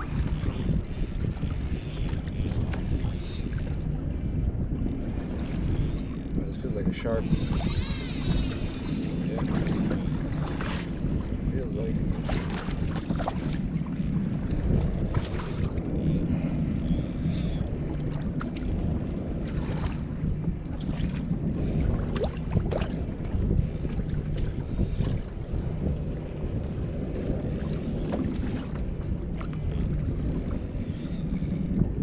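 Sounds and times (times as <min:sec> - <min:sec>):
water lapping against hull: 0:00.0 - 0:32.0
wind buffeting microphone: 0:00.0 - 0:32.0.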